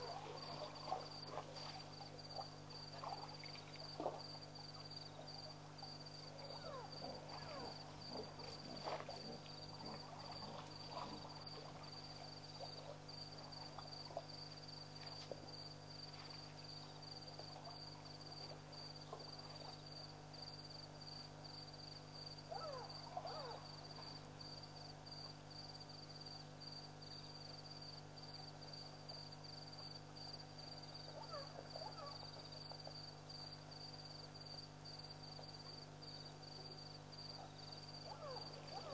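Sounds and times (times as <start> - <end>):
constant low hum: 0.0 - 38.9
crickets chirring: 0.0 - 38.9.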